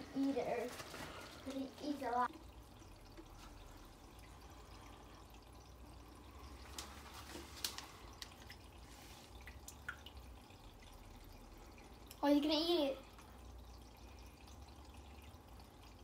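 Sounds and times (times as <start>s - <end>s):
short drips: 0.0s - 16.0s
water trickling faintly: 0.0s - 16.0s.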